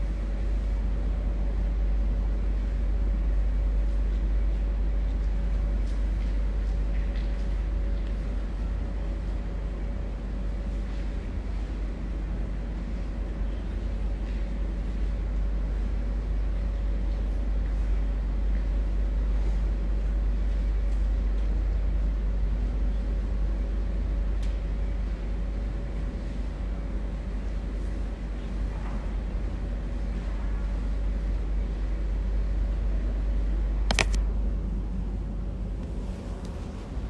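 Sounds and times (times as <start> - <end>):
faint constant hum: 0.0 - 37.0
steady low rumble: 0.0 - 37.0.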